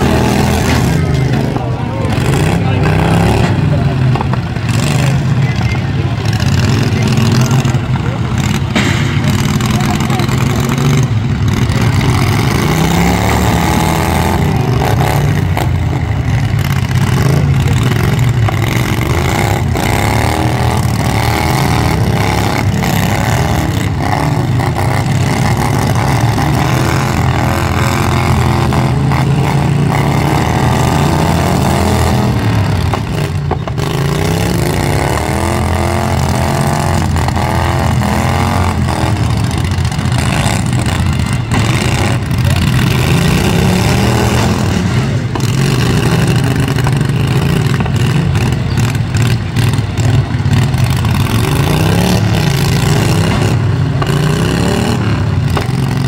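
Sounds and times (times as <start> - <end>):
racing lawn mower engines: 0.0 - 56.0.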